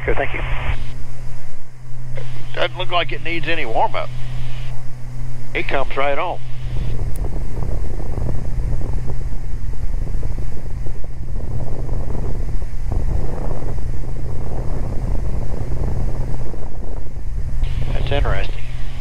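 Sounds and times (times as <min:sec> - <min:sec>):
aircraft engines droning in cabin: 0:00.0 - 0:19.0.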